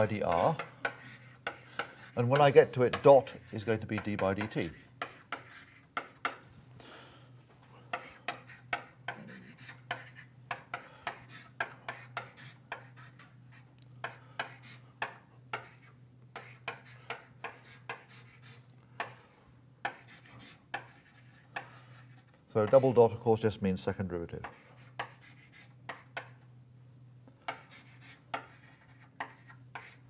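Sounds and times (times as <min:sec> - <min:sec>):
chalk writing on blackboard: 0:00.0 - 0:06.4, 0:07.9 - 0:19.2, 0:19.8 - 0:23.0, 0:24.4 - 0:26.4, 0:27.5 - 0:30.0.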